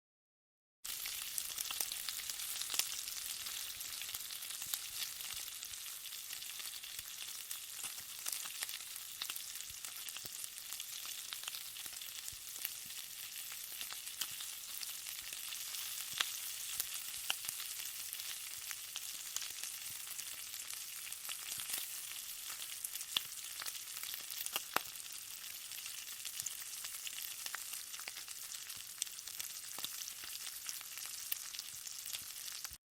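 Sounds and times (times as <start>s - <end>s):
bacon sizzling and popping: 0.8s - 32.8s.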